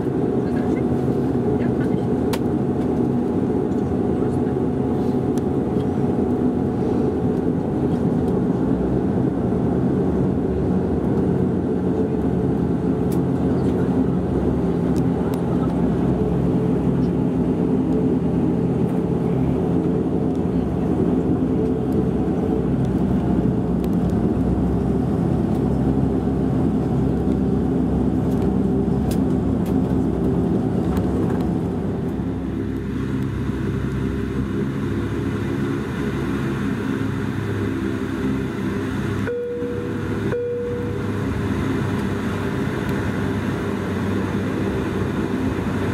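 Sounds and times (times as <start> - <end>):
turboprop engines droning: 0.0 - 45.9.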